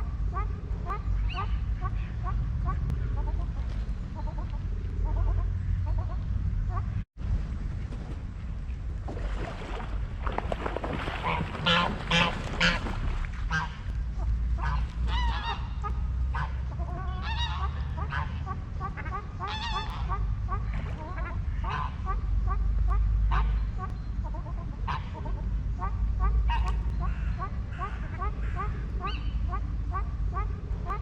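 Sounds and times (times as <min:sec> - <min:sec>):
waterfowl honking and calling: 0:00.0 - 0:07.0, 0:11.0 - 0:31.0
steady low rumble: 0:00.0 - 0:31.0.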